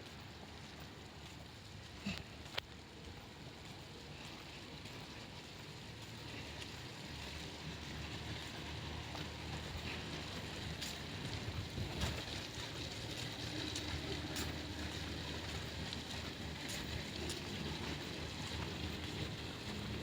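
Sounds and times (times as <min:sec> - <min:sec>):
outdoor background rumble: 0:00.0 - 0:20.0.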